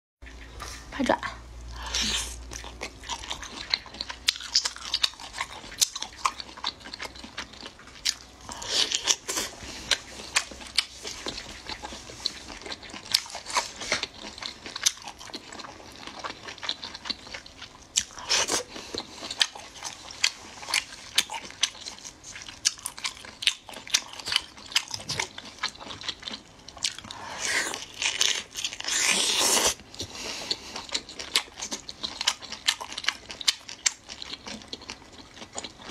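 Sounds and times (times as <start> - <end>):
biting and chewing: 1.9 - 35.9.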